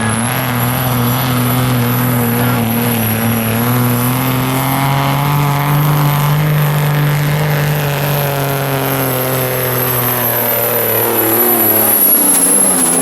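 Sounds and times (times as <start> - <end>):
vehicle engine running hard: 0.0 - 13.0.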